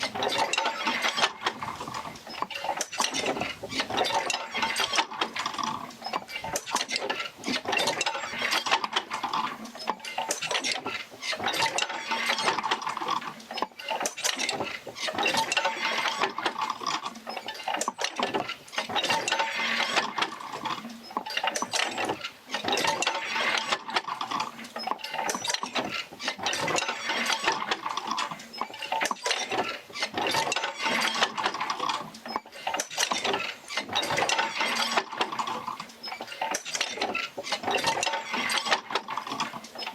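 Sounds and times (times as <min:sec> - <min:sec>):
metallic clanking and creaking wheel: 0:00.0 - 0:39.9.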